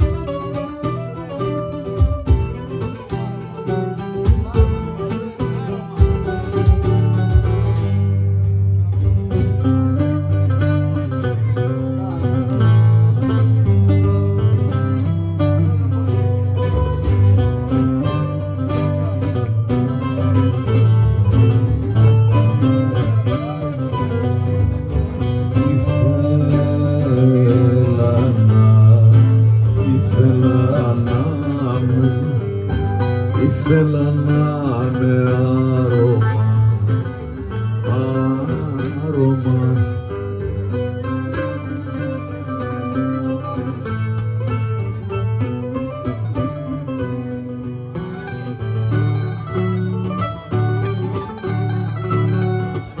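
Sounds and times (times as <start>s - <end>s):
mandolin and lutes playing: 0.0s - 53.0s.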